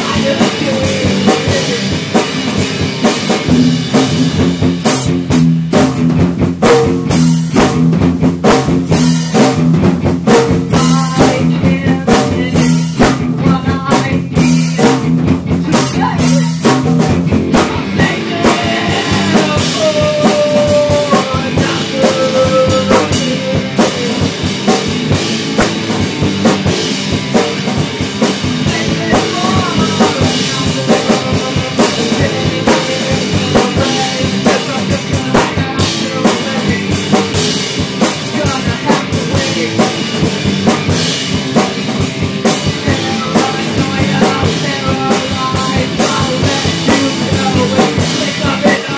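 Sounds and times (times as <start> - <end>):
drum kit beat: 0.0 - 48.9
guitar chords: 0.0 - 48.9
melodic guitar line: 0.0 - 48.9.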